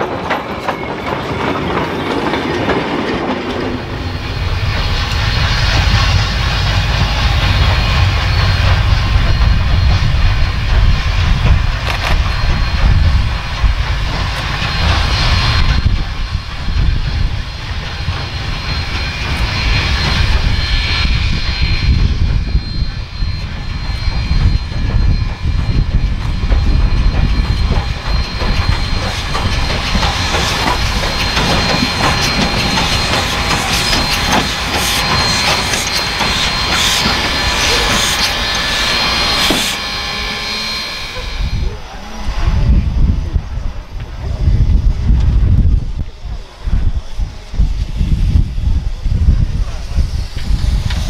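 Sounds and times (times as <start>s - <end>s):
steam locomotive rumbling: 0.0s - 51.0s.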